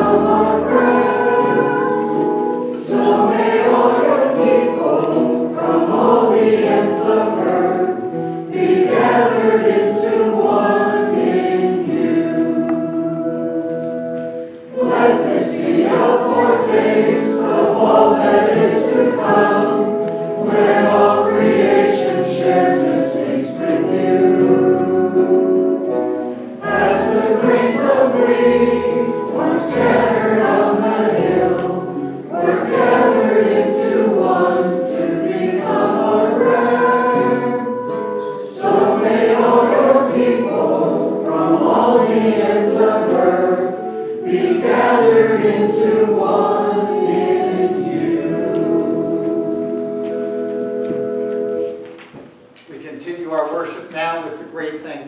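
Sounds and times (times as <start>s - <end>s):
voices singing a hymn: 0.0s - 51.9s.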